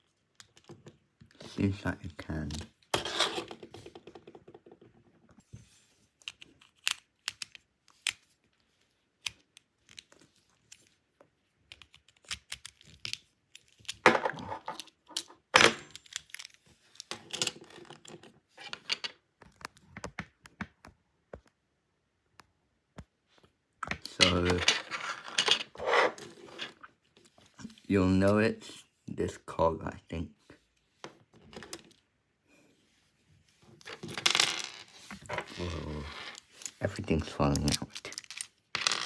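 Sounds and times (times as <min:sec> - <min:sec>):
plastic parts being handled: 0:00.1 - 0:21.5, 0:23.3 - 0:27.9, 0:33.6 - 0:39.0.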